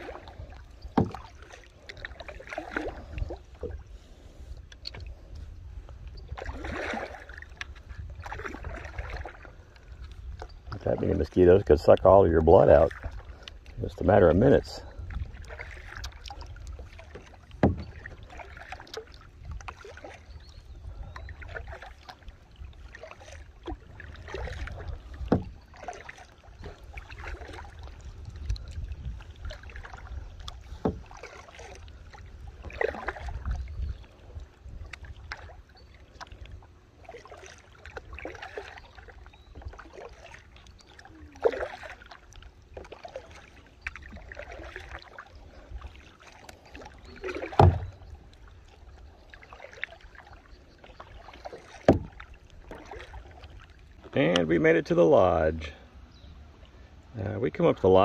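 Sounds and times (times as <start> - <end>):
paddle splashing in water: 0.0 - 58.0.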